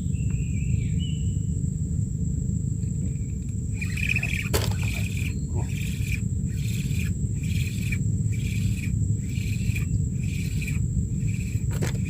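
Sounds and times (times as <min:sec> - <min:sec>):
insects chirring: 0:00.0 - 0:12.0
thin high whine: 0:00.0 - 0:12.0.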